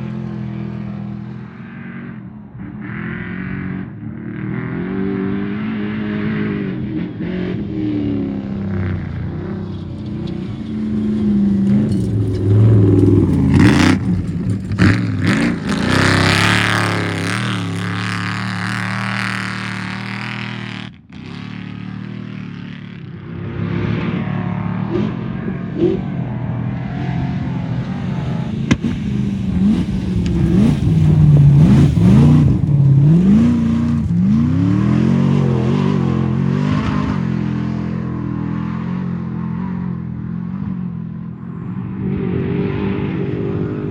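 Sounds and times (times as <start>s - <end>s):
race vehicle engines revving: 0.0s - 43.9s.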